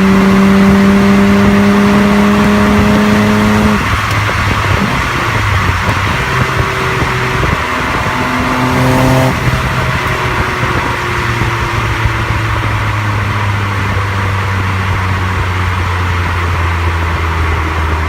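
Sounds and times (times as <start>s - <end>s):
car engine exhaust while driving: 0.0s - 18.0s.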